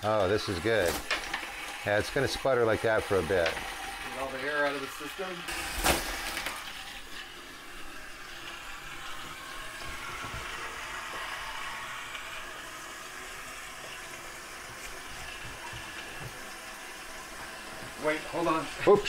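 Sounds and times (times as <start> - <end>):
water sputtering from pipes: 0.0 - 19.0.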